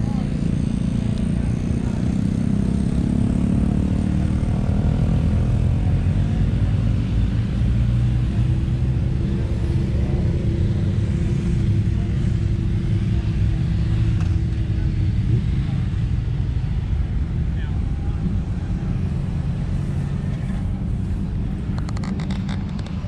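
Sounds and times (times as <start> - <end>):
motorcycle engines rumbling: 0.0 - 23.0.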